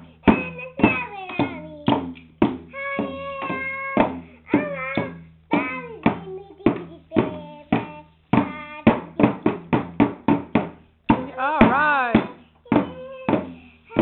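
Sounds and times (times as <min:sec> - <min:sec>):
child singing: 0:00.0 - 0:09.8, 0:10.5 - 0:14.0
toy drum beats: 0:00.0 - 0:14.0.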